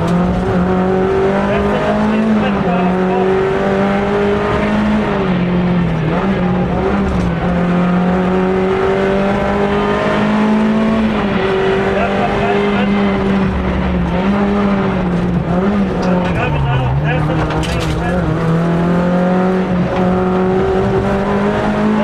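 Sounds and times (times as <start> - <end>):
rally car engine revving: 0.0 - 22.0
road and cabin noise: 0.0 - 22.0.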